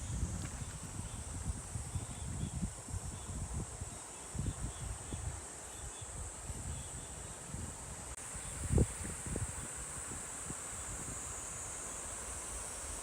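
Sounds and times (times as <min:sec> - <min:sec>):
insects calling: 0:00.0 - 0:13.0.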